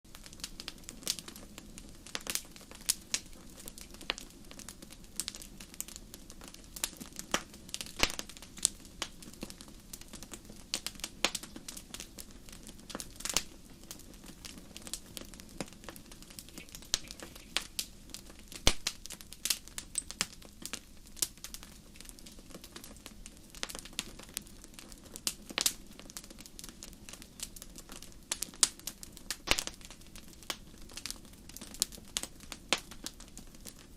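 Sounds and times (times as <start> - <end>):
campfire crackling and popping: 0.1 - 33.9
faint low background noise: 0.1 - 33.9.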